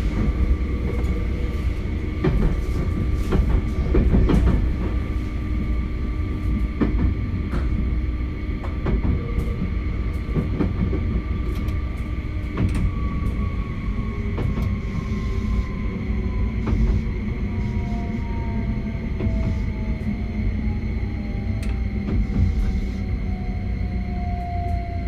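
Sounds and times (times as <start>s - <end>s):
electric train inverter whine: 0.0s - 25.0s
low train rumble: 0.0s - 25.0s.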